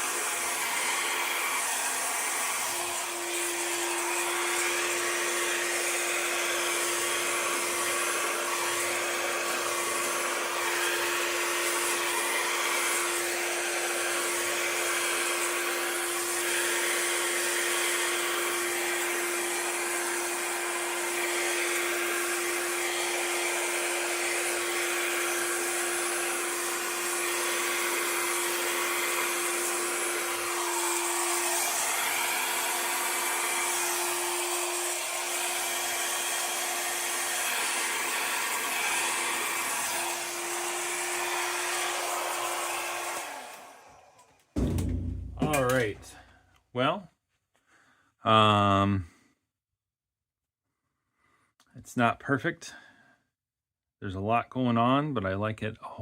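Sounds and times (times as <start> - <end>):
hair dryer running: 0.0 - 46.2.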